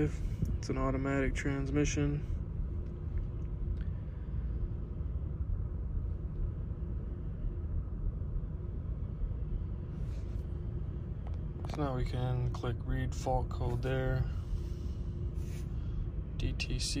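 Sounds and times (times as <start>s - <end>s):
car engine idling rough: 0.0s - 17.0s.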